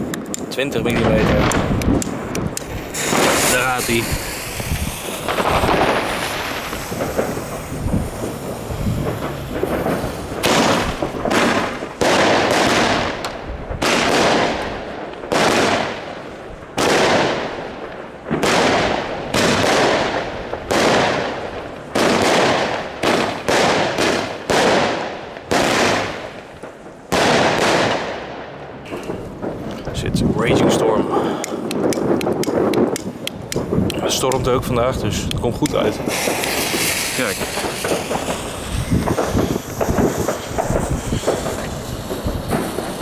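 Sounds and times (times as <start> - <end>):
firework hiss and crackle: 0.0 - 43.0
firework shots: 0.0 - 43.0.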